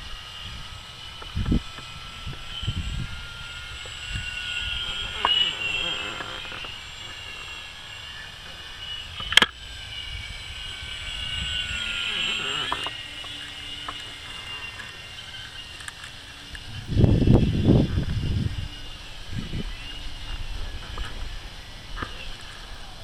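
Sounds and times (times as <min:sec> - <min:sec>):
distant rc plane motor whining: 0:00.0 - 0:23.0.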